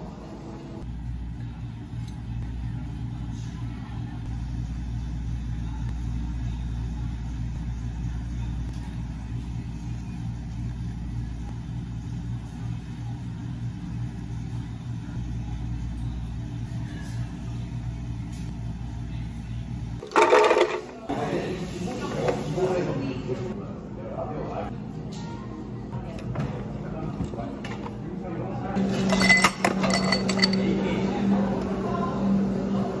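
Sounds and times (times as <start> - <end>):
kitchen machine hum: 0.0 - 24.5, 27.6 - 33.0.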